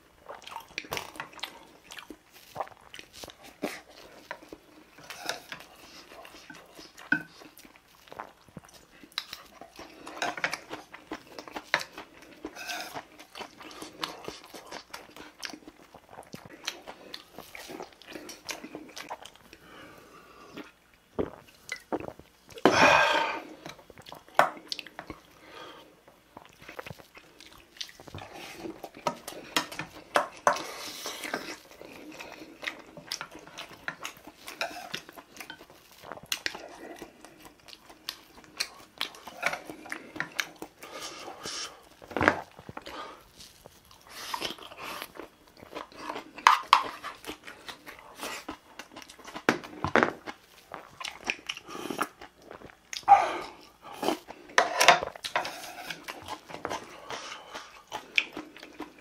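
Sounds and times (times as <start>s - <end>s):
person chewing and biting food: 0.2s - 19.6s, 26.1s - 59.0s.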